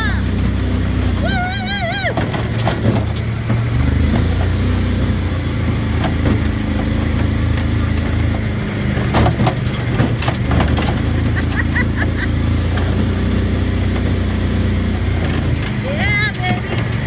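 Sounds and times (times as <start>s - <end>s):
buggy engine running: 0.0s - 17.0s
knocks and rattles over bumps: 0.0s - 17.0s.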